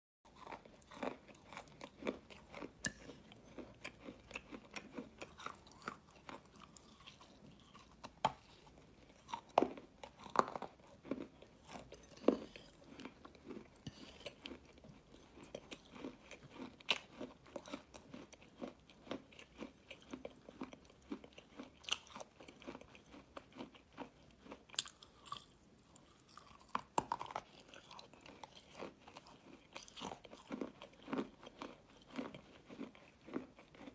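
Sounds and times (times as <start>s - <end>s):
person chewing crunchy treat: 0.3s - 33.9s.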